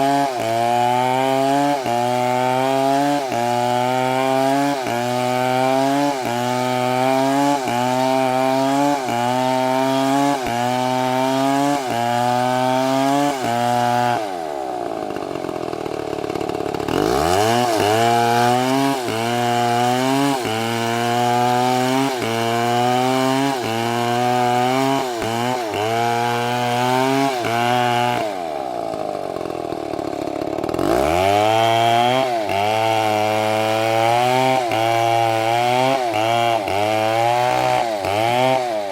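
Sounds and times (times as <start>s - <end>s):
chainsaw running under load: 0.0s - 38.9s.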